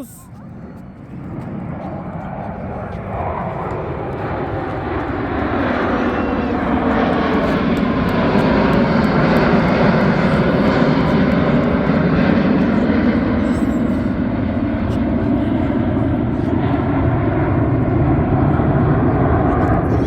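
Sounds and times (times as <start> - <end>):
airplane engines: 0.0 - 20.0.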